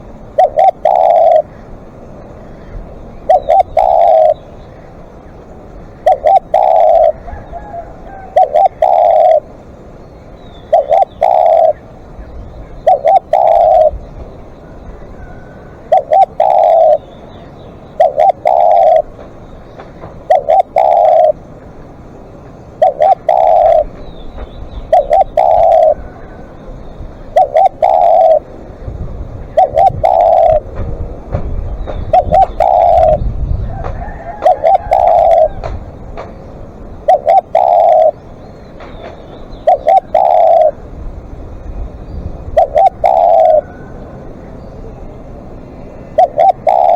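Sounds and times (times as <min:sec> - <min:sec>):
dove cooing: 0:00.0 - 0:01.8, 0:02.4 - 0:04.9, 0:05.7 - 0:09.6, 0:10.6 - 0:17.2, 0:17.9 - 0:21.5, 0:22.7 - 0:38.2, 0:39.0 - 0:40.9, 0:42.2 - 0:45.1, 0:45.8 - 0:46.9.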